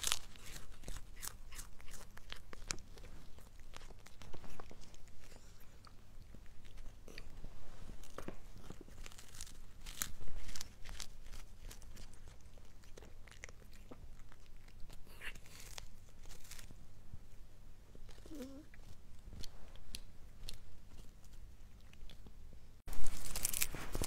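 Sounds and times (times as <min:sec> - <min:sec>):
cat crunching chew stick: 0:00.0 - 0:07.3, 0:08.0 - 0:16.8, 0:18.1 - 0:22.3.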